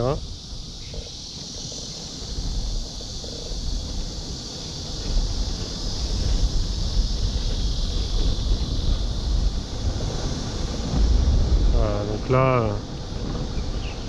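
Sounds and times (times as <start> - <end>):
steady high hiss: 0.0 - 14.0
wind buffeting microphone: 0.0 - 14.0.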